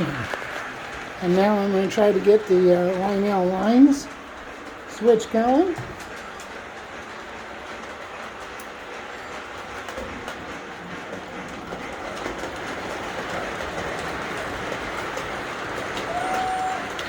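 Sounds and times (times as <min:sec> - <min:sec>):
model trains whirring on track: 0:00.0 - 0:17.0.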